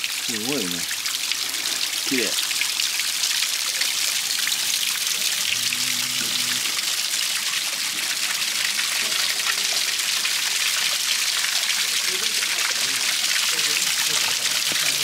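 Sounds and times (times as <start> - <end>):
stream trickling over rocks: 0.0 - 15.0
water dripping off icicles: 0.0 - 15.0.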